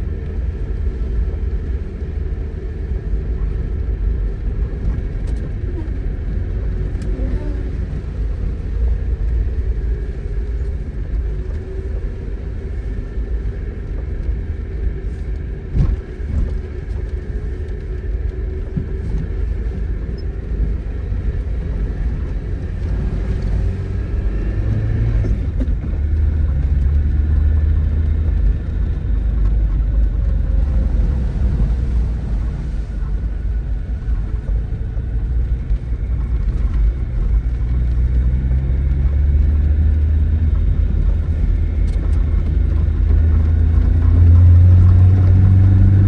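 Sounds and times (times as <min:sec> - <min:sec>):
engine low rumble: 0:00.0 - 0:46.0.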